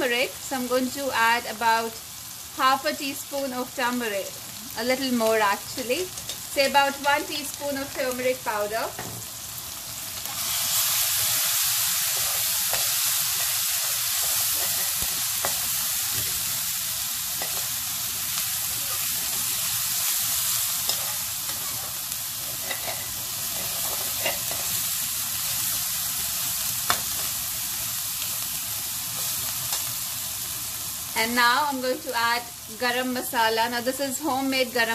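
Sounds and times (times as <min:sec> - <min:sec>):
spices sizzling in hot oil: 0:00.0 - 0:34.9.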